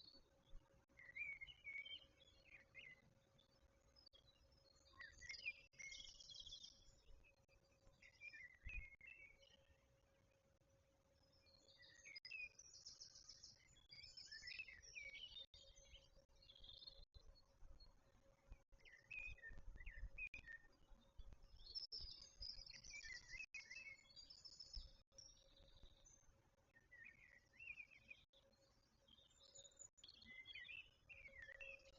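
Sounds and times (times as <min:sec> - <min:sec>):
birds chirping and twittering: 0:00.0 - 0:31.9.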